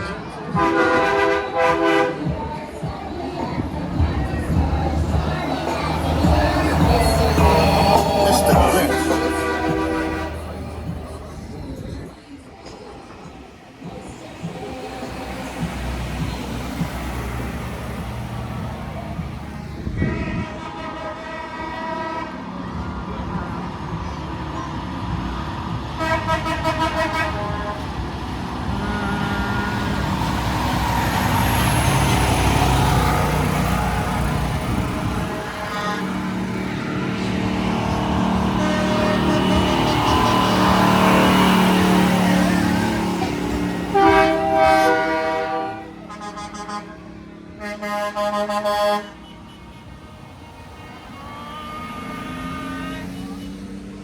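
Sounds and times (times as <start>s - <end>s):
truck horn blasts: 0.0s - 2.5s, 3.4s - 11.6s, 15.4s - 22.9s, 26.0s - 54.0s
heavy truck engine passing: 0.0s - 54.0s.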